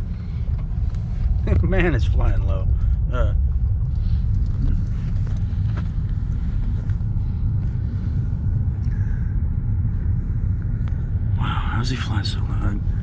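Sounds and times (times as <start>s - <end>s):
low rumble inside a car: 0.0s - 13.0s.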